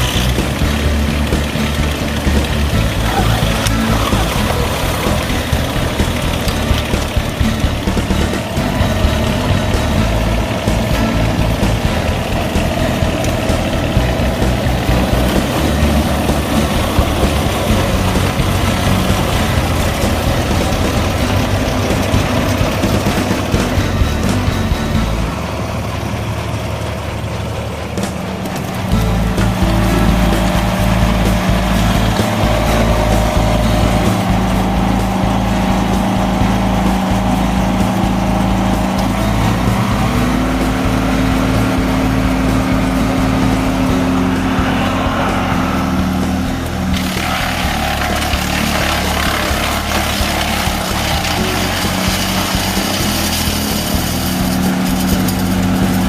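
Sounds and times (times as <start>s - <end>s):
wood chipper engine running: 0.0s - 56.0s.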